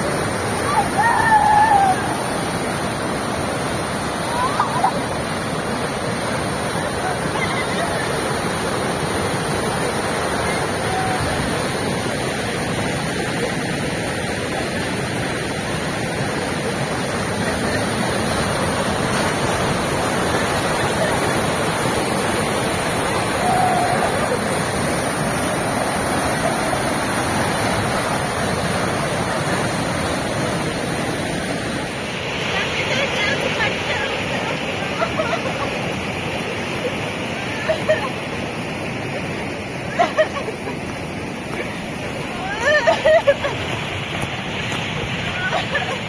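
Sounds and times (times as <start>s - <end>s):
river water rushing over rocks: 0.0s - 46.0s.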